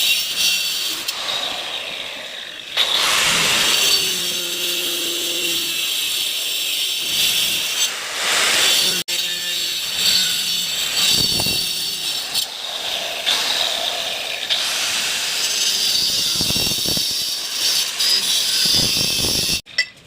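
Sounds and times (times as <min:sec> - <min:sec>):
power tool cutting: 0:00.0 - 0:19.7.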